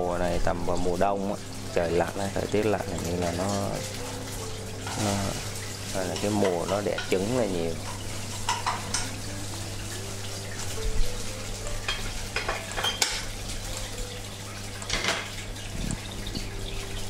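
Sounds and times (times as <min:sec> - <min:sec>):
aquarium water bubbling: 0:00.0 - 0:17.0.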